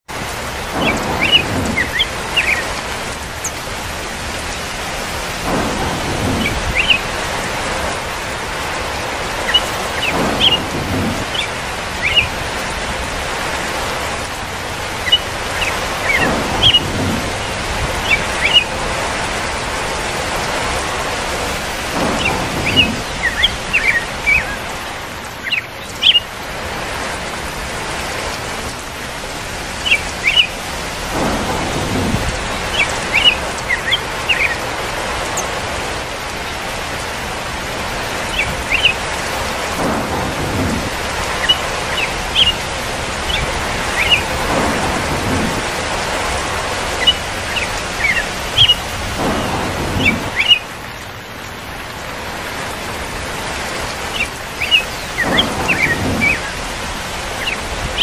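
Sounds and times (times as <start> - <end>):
steady rainfall: 0.0 - 58.0
low rolls of thunder: 0.1 - 58.0.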